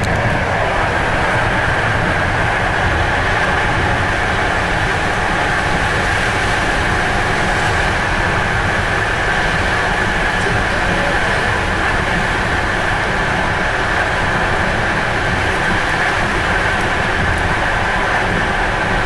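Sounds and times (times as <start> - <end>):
high whine: 0.0 - 19.0
train rumble and hiss: 0.0 - 19.0.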